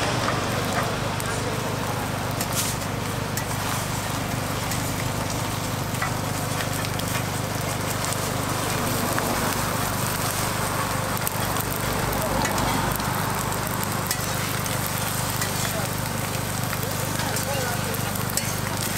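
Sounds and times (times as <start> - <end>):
food sizzling on griddle: 0.0 - 18.9.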